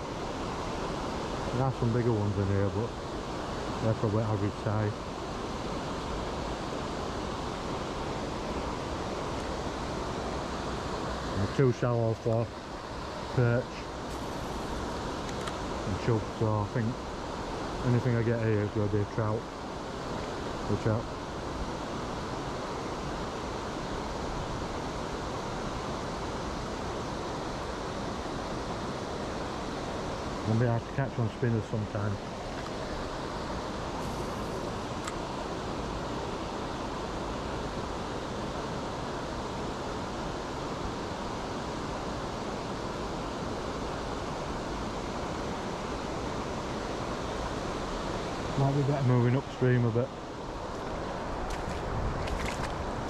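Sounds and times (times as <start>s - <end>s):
river water rushing over weir: 0.0s - 53.0s.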